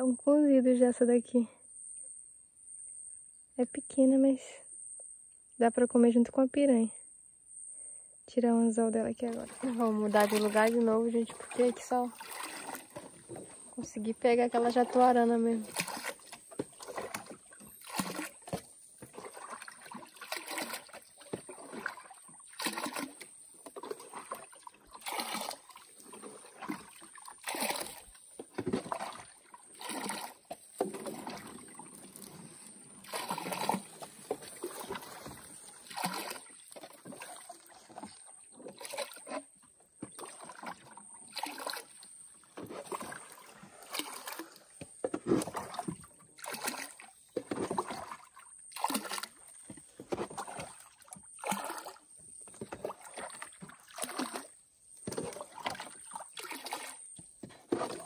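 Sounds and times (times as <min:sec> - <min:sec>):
paddle swishing and splashing water: 0:09.2 - 0:58.0.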